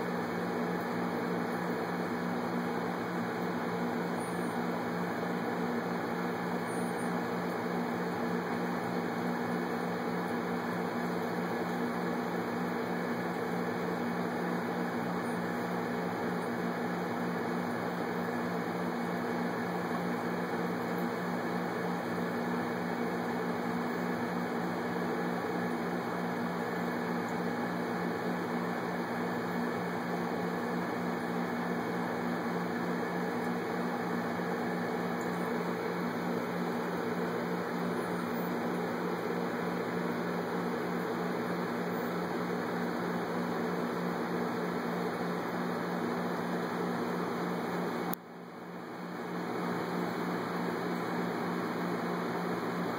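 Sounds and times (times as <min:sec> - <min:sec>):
machine hum with low drone: 0:00.0 - 0:52.9.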